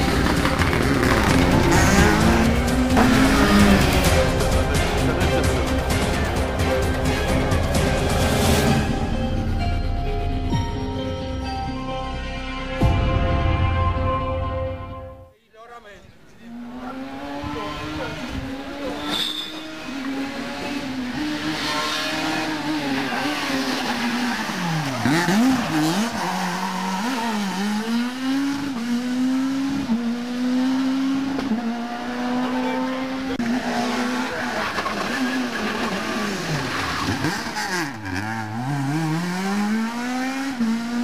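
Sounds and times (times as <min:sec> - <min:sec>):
rally car engine revving: 0:00.0 - 0:08.4, 0:16.5 - 0:41.0.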